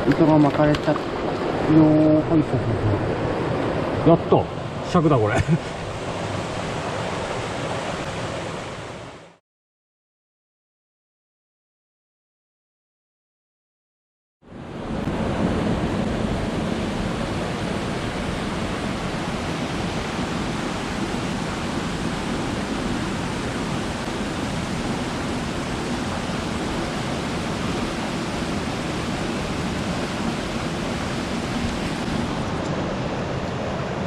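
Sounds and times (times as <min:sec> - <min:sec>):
stream rushing: 0:00.0 - 0:09.4, 0:14.5 - 0:34.0.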